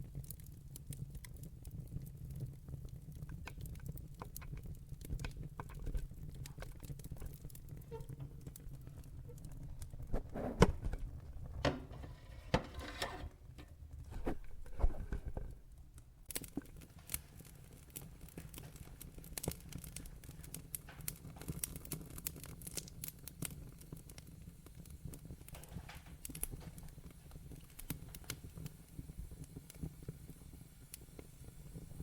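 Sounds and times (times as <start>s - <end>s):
log fire crackling: 0.0s - 32.0s
low rumble of fire: 0.0s - 32.0s.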